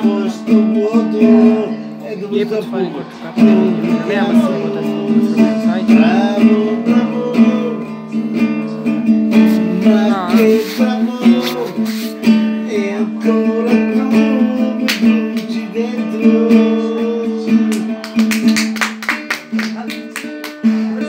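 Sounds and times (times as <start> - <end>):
man singing: 0.0 - 18.7, 19.4 - 21.0
classical guitar strumming chords: 0.0 - 21.0.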